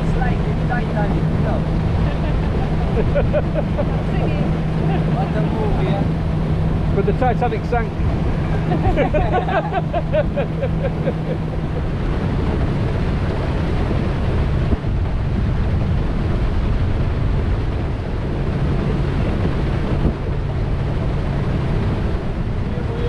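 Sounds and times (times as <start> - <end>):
boat engine running: 0.0 - 23.0
wind noise on microphone: 0.0 - 23.0.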